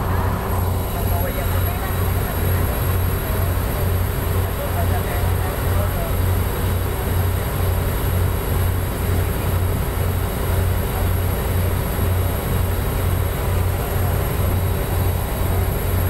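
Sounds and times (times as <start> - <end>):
motor boat engine droning: 0.0 - 16.0
water rushing along hull: 0.0 - 16.0.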